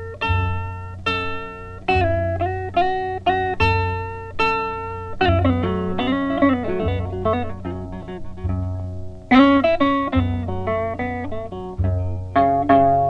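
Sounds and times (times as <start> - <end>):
blues guitar playing: 0.0 - 13.0.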